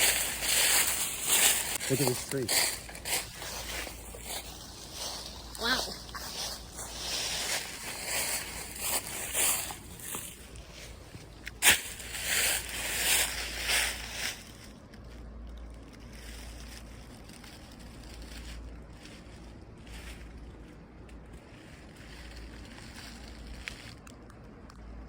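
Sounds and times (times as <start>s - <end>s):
footsteps rustling through leaves: 0.0s - 24.0s
faint low wind rumble: 0.0s - 25.0s.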